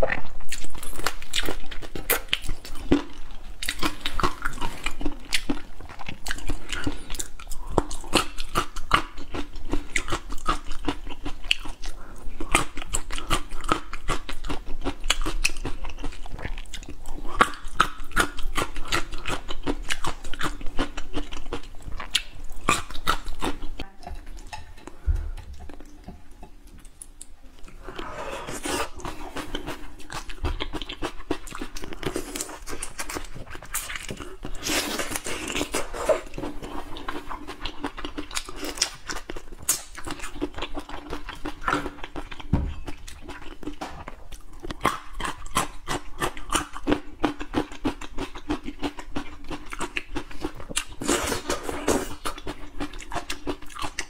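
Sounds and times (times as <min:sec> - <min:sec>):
chewing crunchy seafood: 0:00.0 - 0:54.0.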